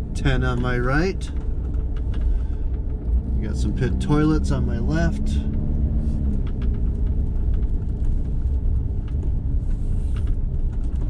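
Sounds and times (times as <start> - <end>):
car engine and tyres rumbling: 0.0 - 11.0
small clicks and ticks: 0.2 - 11.0.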